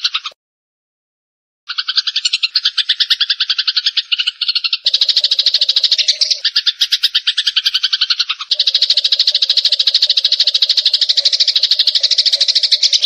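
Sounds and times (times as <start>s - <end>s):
sparrows chattering: 0.0s - 0.4s, 1.7s - 13.0s.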